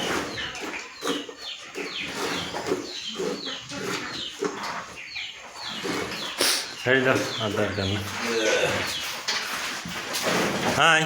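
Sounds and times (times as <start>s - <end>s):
low farmyard noises: 0.0s - 11.0s
small birds chirping: 0.0s - 11.0s.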